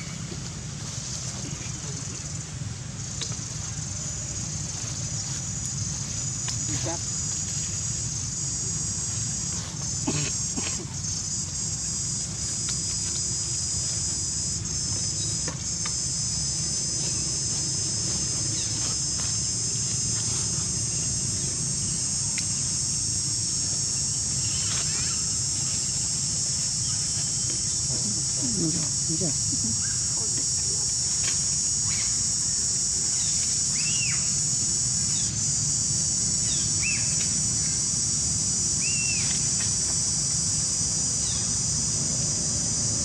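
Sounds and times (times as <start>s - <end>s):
high-pitched insect chorus: 0.0s - 43.0s.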